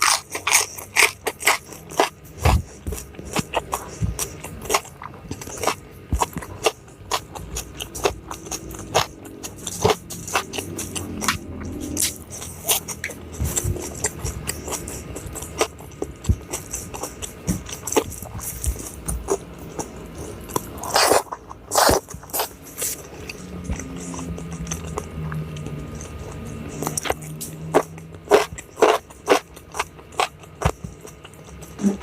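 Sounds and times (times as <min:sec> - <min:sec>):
chewing and crunching food: 0:00.0 - 0:32.0.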